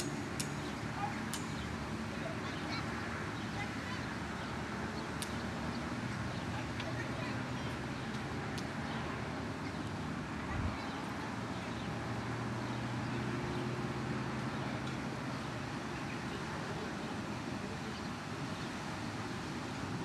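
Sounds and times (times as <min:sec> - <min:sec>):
distant traffic hum: 0:00.0 - 0:20.0.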